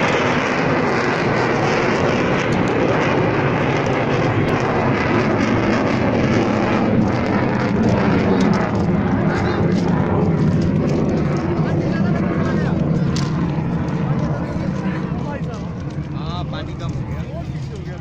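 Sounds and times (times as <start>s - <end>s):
fighter jet engine noise: 0.0s - 18.0s.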